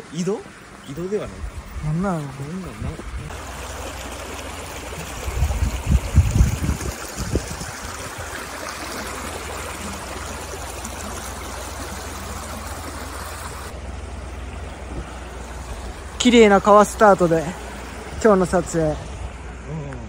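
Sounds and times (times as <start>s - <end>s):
stream water running: 0.0s - 20.0s.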